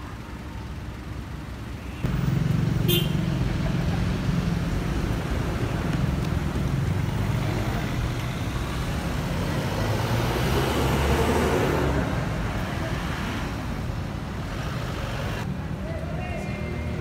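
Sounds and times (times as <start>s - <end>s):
tyres on road: 0.0s - 17.0s
vehicle engines running: 0.0s - 17.0s.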